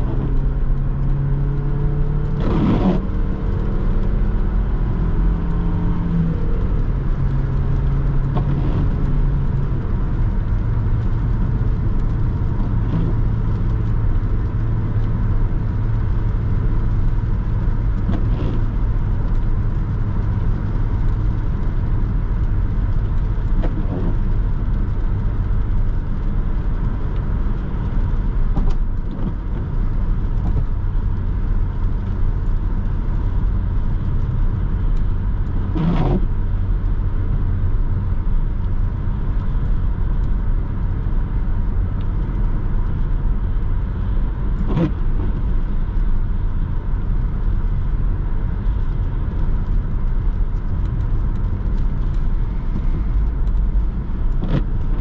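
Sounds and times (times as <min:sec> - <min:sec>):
car engine cruising: 0:00.0 - 0:55.0
tyre noise on wet road: 0:00.0 - 0:55.0.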